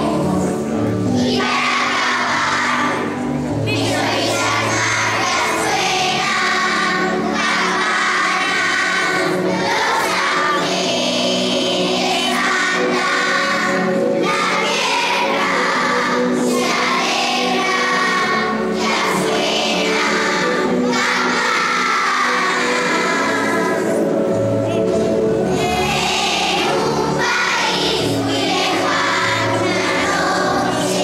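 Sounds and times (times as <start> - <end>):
children's choir singing: 0.0 - 31.0
instrumental accompaniment: 0.0 - 31.0.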